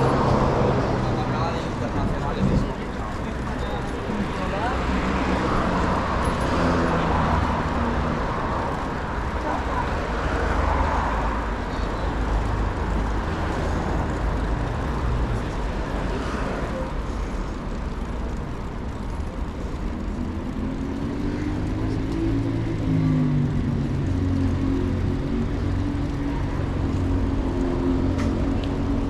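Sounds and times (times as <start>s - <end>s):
street traffic: 0.0s - 29.0s.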